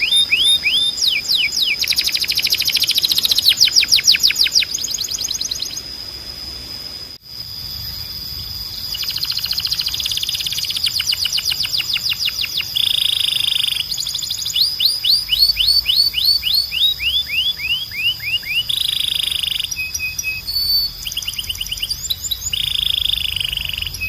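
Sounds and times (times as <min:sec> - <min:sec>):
canary singing: 0:00.0 - 0:06.0, 0:08.7 - 0:24.0.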